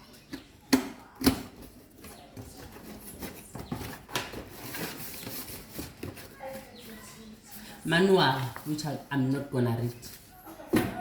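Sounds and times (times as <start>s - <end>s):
paper and plastic rustling: 1.4s - 11.0s.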